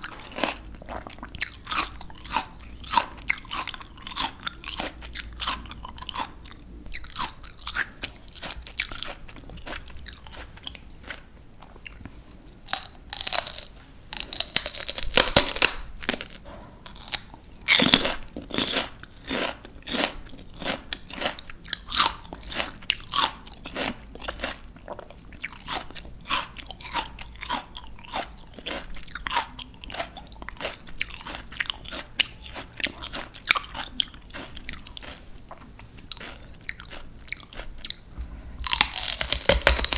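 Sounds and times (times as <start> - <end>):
crunching raw vegetables: 0.0 - 39.9.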